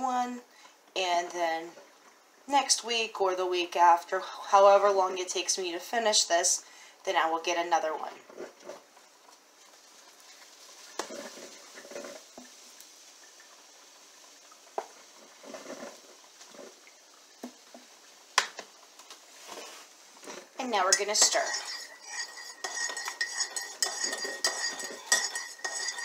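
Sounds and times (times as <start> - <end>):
faint hiss: 0.0 - 25.8.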